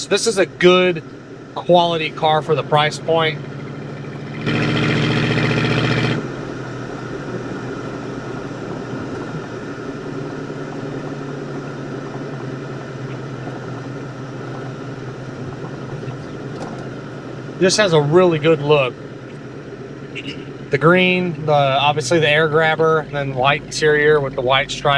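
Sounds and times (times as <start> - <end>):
car engine running: 0.0 - 24.9
road noise: 0.0 - 24.9.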